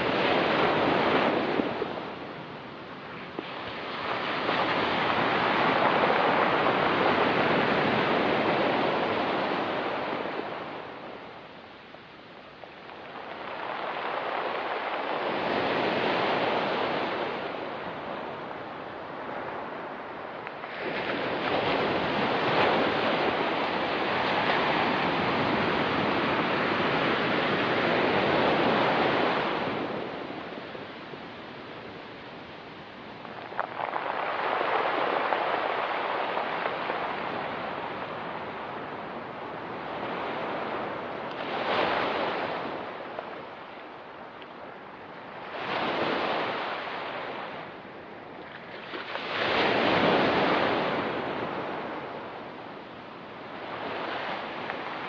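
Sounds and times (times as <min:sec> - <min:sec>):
waves washing onto rocky beach: 0:00.0 - 0:55.0.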